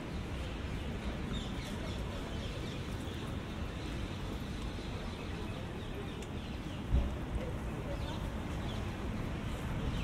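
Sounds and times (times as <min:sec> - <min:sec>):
rain hissing on wet street: 0:00.0 - 0:10.0.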